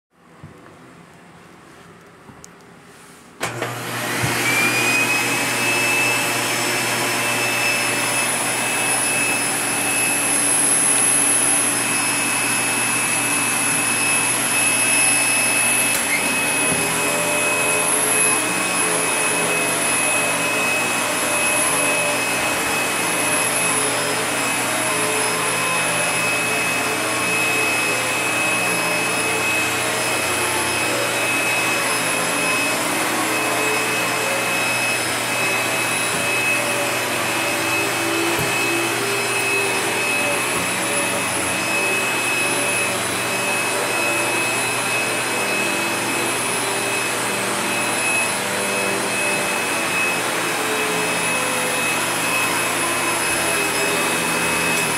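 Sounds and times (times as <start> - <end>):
vacuum cleaner motor whine: 3.4 - 54.9
vacuum nozzle on carpet: 3.4 - 54.9.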